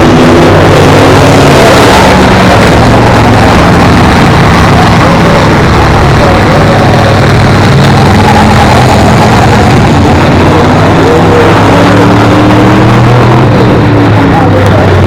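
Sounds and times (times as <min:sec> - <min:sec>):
race car engine revving up: 0:00.0 - 0:15.0
race car engines running: 0:00.0 - 0:15.0.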